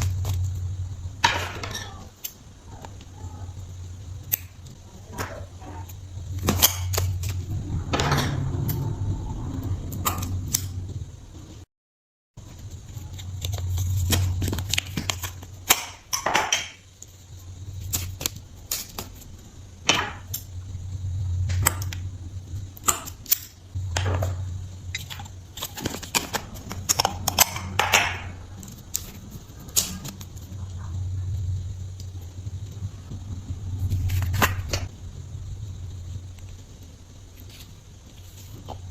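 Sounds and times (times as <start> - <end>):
low rumble: 0.0 - 11.7, 12.4 - 15.7, 17.2 - 38.9.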